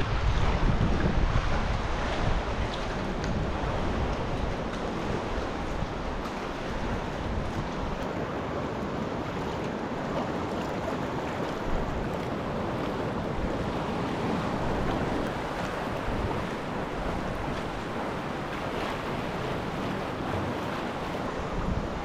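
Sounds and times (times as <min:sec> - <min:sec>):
waves washing: 0:00.0 - 0:22.0
wind buffeting microphone: 0:00.0 - 0:22.0.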